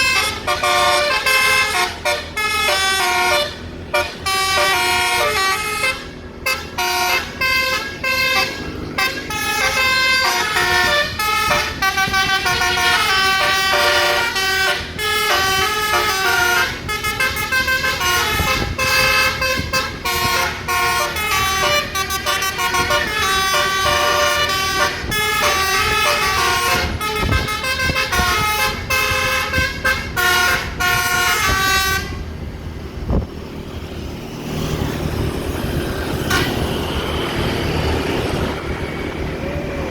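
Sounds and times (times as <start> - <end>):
musical air horn tune: 0.0 - 32.3, 36.2 - 36.8.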